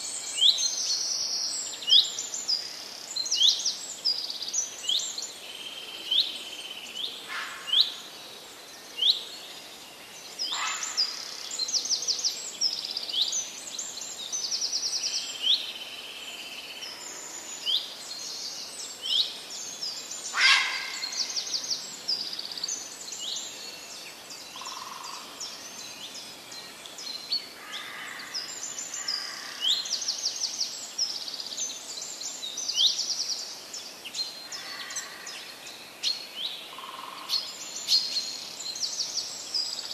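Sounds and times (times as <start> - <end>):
faint outdoor hiss: 0.0 - 39.9
small birds chirping and trilling: 0.0 - 39.9.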